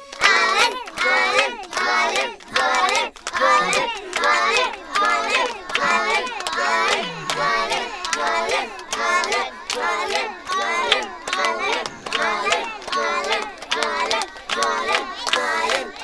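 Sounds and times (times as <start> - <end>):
children chanting: 0.0 - 16.0.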